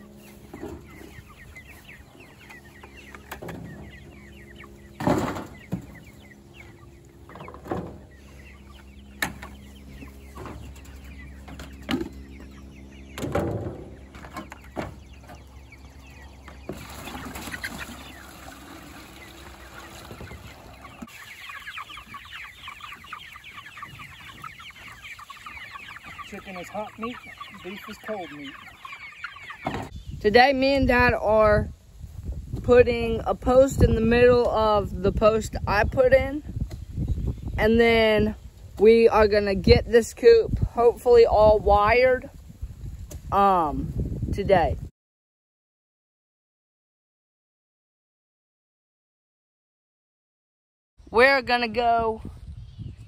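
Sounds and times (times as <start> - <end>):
chickens clucking and peeping: 0.0 - 44.9, 51.0 - 53.0.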